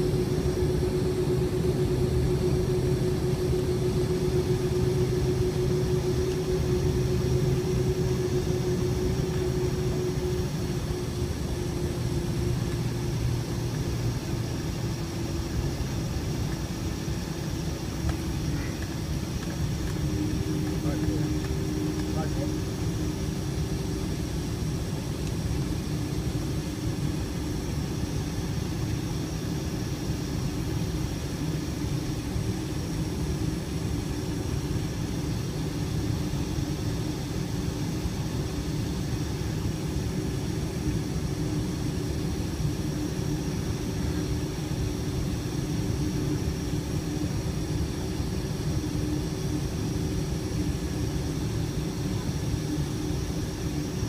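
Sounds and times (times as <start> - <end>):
constant cabin hum: 0.0 - 54.0
faint high whine: 0.0 - 54.0
jet engines rumbling: 0.0 - 54.0.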